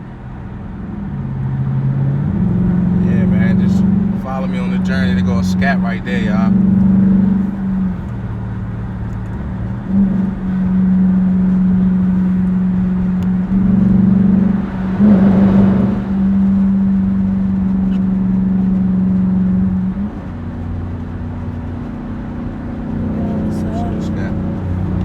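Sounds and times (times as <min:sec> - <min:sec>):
car engine droning: 0:00.0 - 0:25.0.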